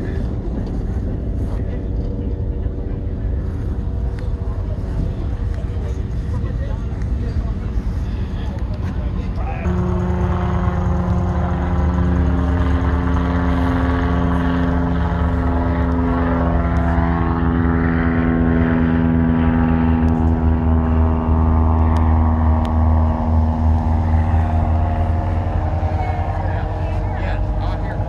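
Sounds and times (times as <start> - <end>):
engine drone: 0.0 - 28.0.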